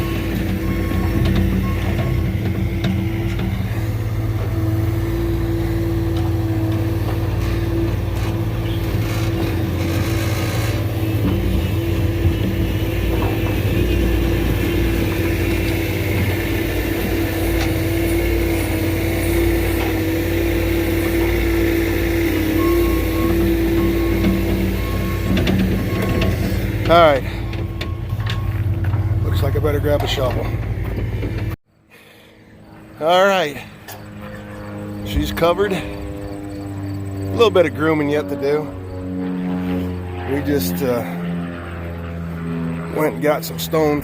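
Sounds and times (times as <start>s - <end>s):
diesel engines of machines running: 0.0s - 44.0s.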